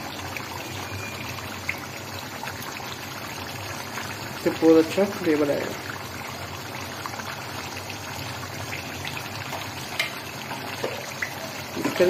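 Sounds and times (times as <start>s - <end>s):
gravy simmering hiss: 0.0s - 12.0s.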